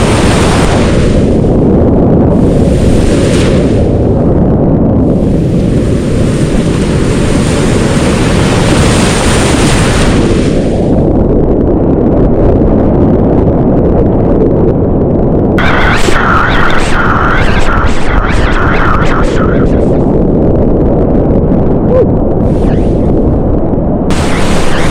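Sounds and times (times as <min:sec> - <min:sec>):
wind buffeting on microphone: 0:00.0 - 0:24.9.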